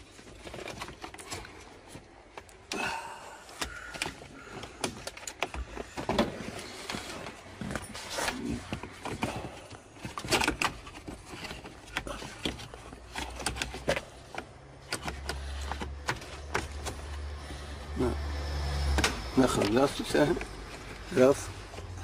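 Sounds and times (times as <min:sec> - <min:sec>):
plastic parts clicking and rattling: 0:00.0 - 0:22.0.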